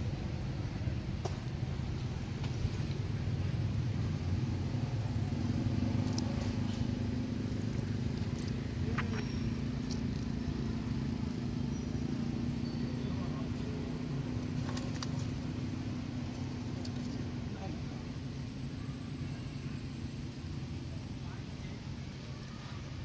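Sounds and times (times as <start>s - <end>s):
motor rumbling and humming: 0.0s - 23.0s.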